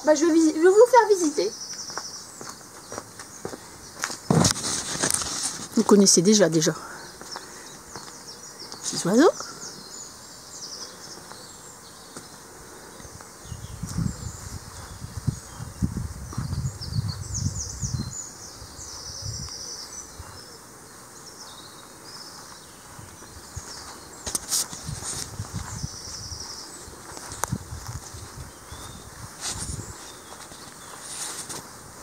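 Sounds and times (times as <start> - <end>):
small birds singing: 0.0 - 32.0.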